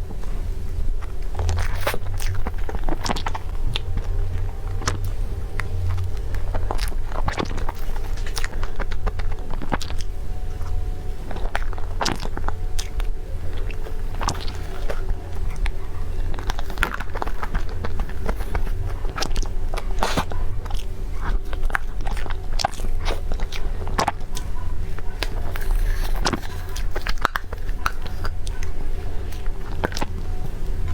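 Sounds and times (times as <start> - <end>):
low hum: 0.0 - 30.9
person chewing crunchy food: 0.0 - 30.9.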